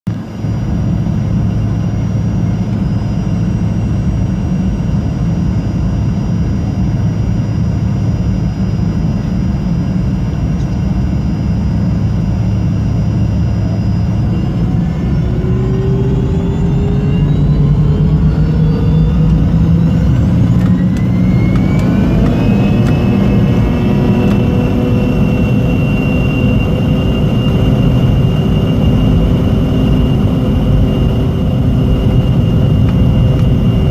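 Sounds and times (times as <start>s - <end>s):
jet engines spooling up: 0.2s - 33.9s.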